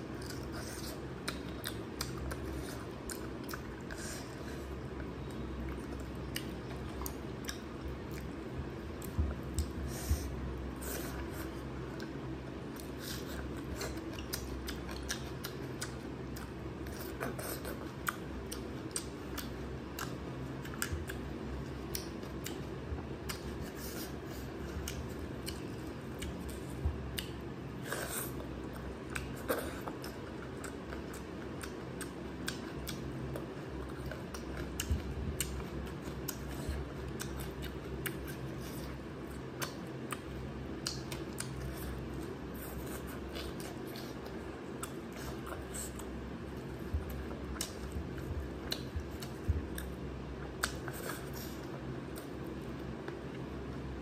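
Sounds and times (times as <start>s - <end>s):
person chewing with wet mouth clicks: 0.2s - 4.0s, 5.2s - 9.9s, 12.0s - 23.6s, 24.8s - 38.4s, 39.3s - 46.2s, 46.8s - 52.4s.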